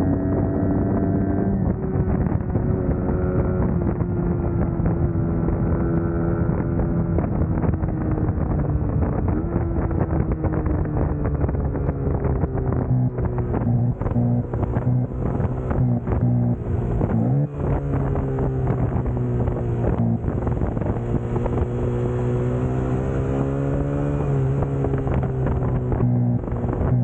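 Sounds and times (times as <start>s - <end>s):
motorcycle engine running: 0.0s - 27.0s
wind buffeting microphone: 0.0s - 27.0s.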